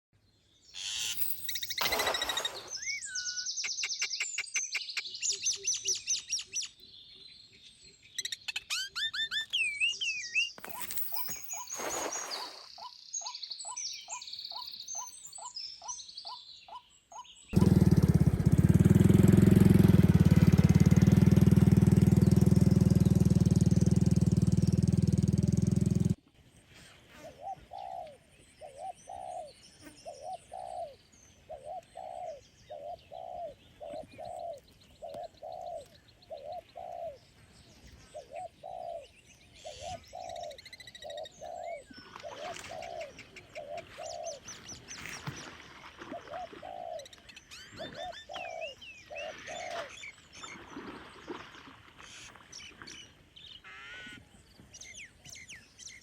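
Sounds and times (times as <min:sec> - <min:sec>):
small birds chirping: 0:00.4 - 0:56.0.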